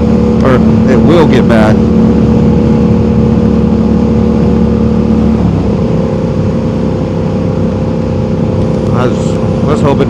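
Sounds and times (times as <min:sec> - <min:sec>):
motorcycle engine cruising: 0:00.0 - 0:10.0
road and wind noise: 0:00.0 - 0:10.0.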